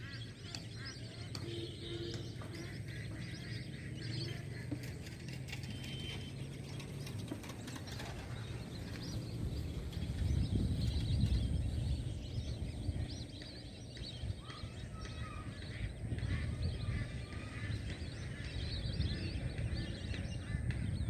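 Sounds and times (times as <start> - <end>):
birds chirping: 0.0 - 21.0
lower bird calls: 0.0 - 21.0.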